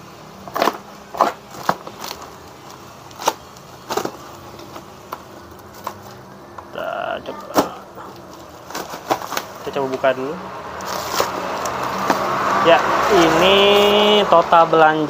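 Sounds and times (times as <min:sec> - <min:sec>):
plastic crackling and rustling: 0:00.4 - 0:10.2, 0:10.8 - 0:14.3.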